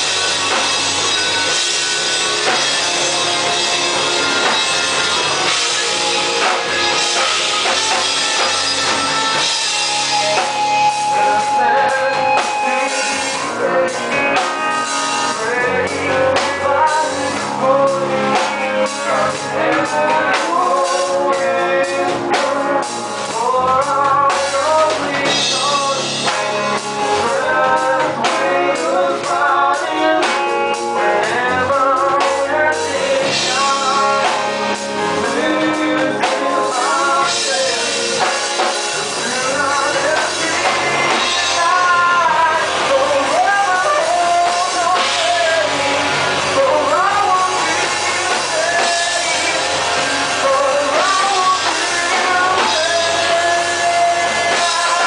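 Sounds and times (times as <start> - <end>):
drum kit: 0.0 - 55.0
electric guitars: 0.0 - 55.0
man singing: 0.0 - 55.0.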